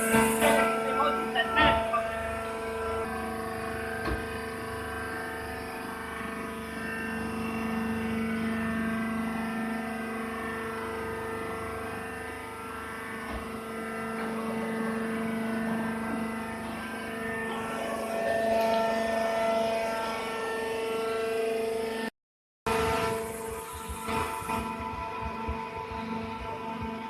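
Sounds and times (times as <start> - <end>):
machine humming with whine: 0.0 - 22.1, 22.7 - 27.0.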